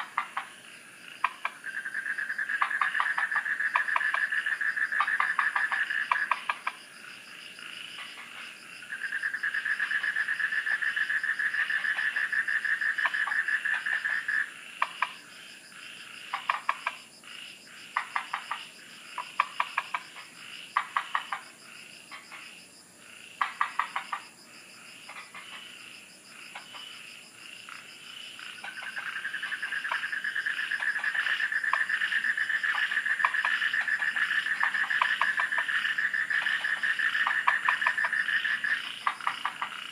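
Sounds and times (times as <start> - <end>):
frogs clicking calls: 0.0 - 39.9
frogs trilling: 0.0 - 39.9.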